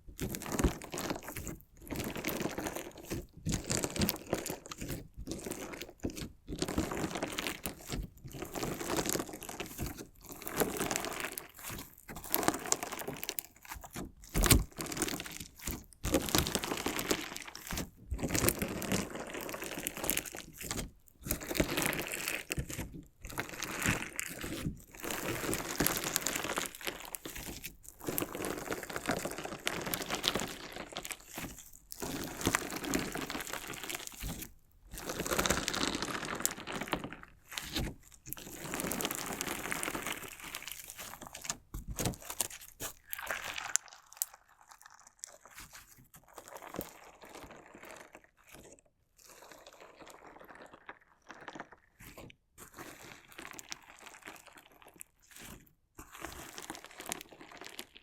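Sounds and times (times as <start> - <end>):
crunchy slime being squeezed: 0.1 - 48.6.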